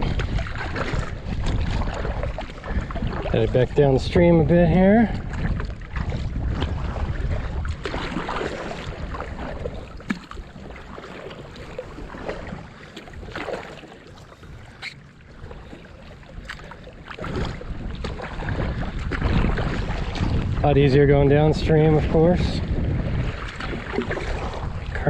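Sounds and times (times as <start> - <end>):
paddle splashing in water: 0.0 - 25.0
wind on microphone: 0.0 - 25.0.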